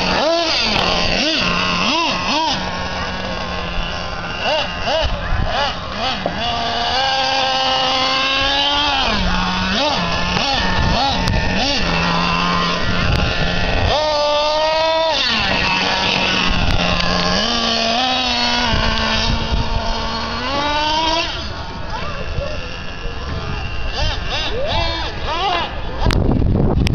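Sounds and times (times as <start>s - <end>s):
small two-stroke engine revving: 0.0s - 26.9s.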